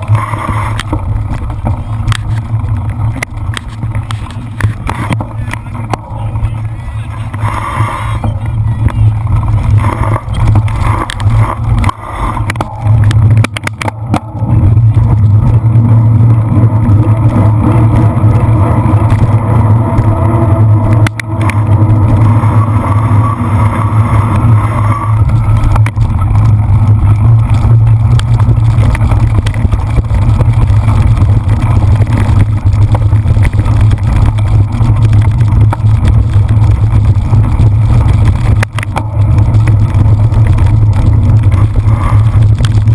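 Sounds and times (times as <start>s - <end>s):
bike jolting over rough ground: 0.0s - 42.9s
wind buffeting microphone: 0.0s - 42.9s.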